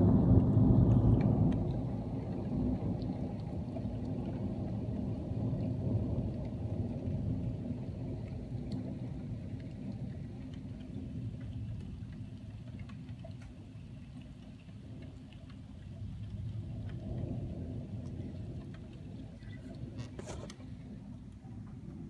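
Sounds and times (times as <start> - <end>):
thunder rumbling: 0.0 - 12.3, 15.9 - 22.0
raindrop ticks: 0.0 - 22.0.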